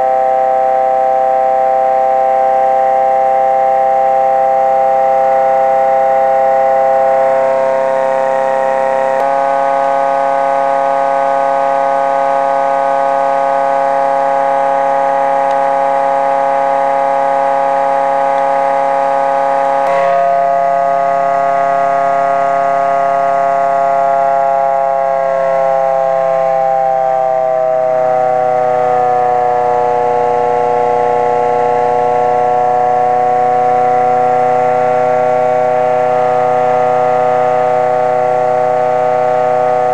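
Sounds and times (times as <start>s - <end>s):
pulse motor humming: 0.0s - 39.9s.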